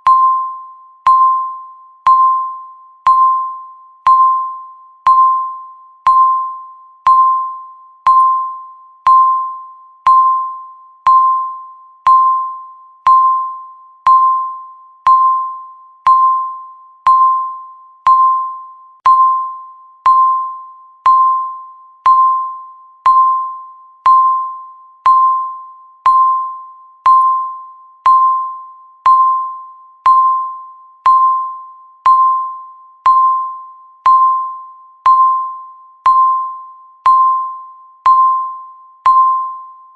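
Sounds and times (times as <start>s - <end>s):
timer beeping: 0.0s - 39.9s.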